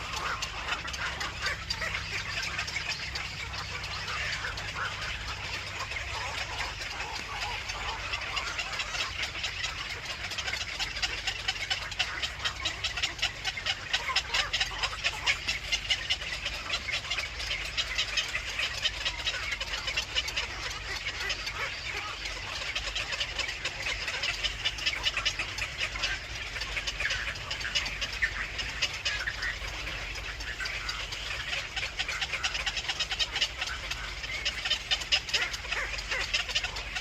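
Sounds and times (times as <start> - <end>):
chorus of high chirping calls: 0.0 - 37.0.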